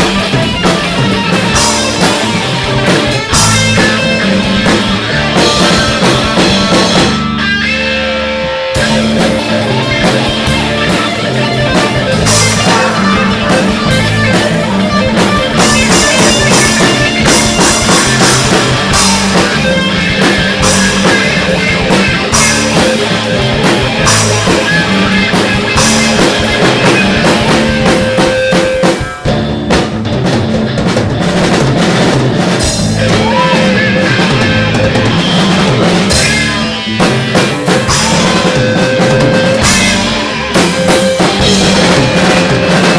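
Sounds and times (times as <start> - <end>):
drum kit playing: 0.0 - 42.9
electric guitar playing: 0.0 - 42.9.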